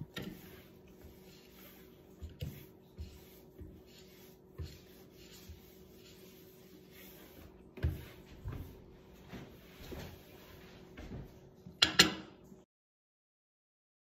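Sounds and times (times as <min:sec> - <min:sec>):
cloth rubbing on wooden table: 0:00.0 - 0:11.3.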